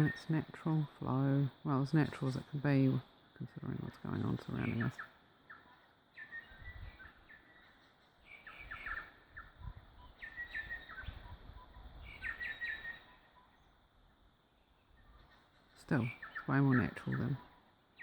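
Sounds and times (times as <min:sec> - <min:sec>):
bellbirds chirping: 0:00.0 - 0:01.0, 0:02.0 - 0:13.8, 0:14.5 - 0:18.0.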